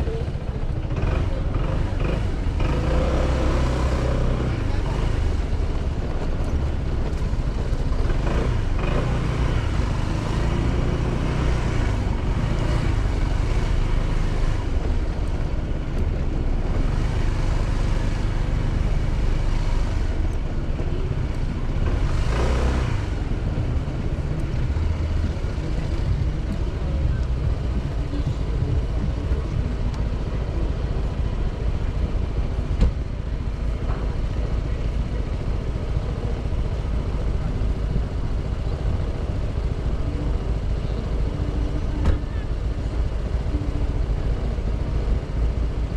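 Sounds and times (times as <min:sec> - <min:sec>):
motorcycle engine cruising: 0:00.0 - 0:45.9
wind and road noise: 0:00.0 - 0:45.9.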